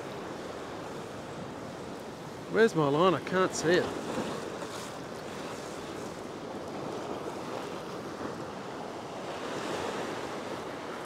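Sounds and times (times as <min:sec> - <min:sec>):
ocean surf washing against rock: 0:00.0 - 0:11.0.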